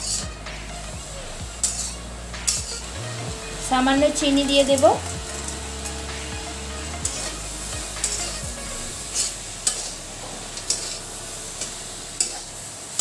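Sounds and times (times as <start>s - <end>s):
spatula scraping a metal pan: 0.0s - 0.6s, 1.2s - 13.0s
vegetables sizzling in oil: 0.0s - 13.0s.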